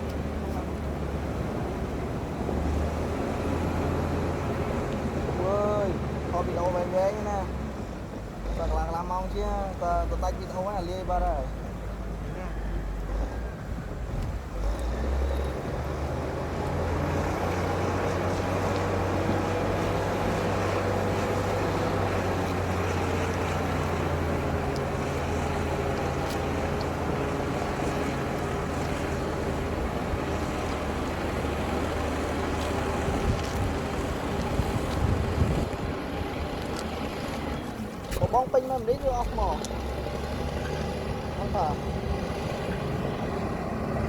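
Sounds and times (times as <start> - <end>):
bulldozer diesel engine droning: 0.0 - 44.0.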